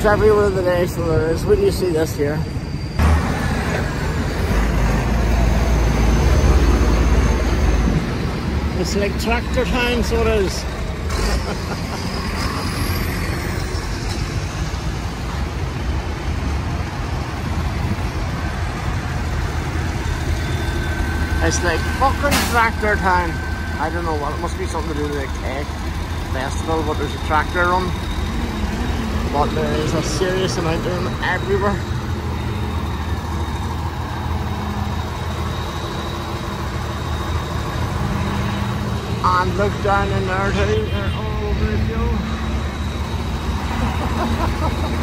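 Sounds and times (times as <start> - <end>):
tractor and lorry engines rumbling: 0.0 - 45.0.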